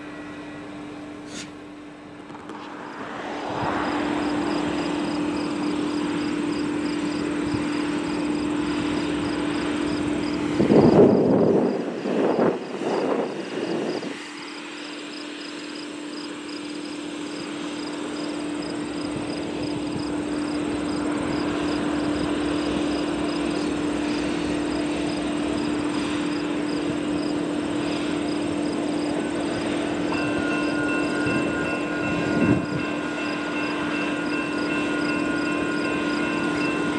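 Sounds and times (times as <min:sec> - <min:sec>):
diesel locomotive drone: 0:00.0 - 0:36.9
loud gusty noise: 0:00.8 - 0:15.2, 0:17.6 - 0:36.9
insects buzzing: 0:03.7 - 0:36.9.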